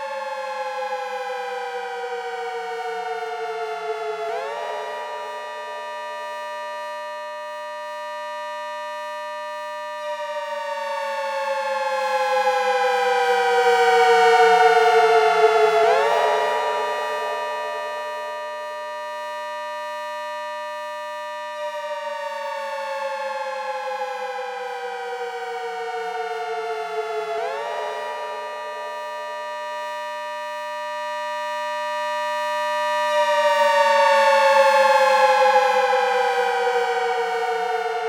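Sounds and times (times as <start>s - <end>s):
synthesized siren wailing: 0.1s - 20.1s, 21.6s - 38.0s.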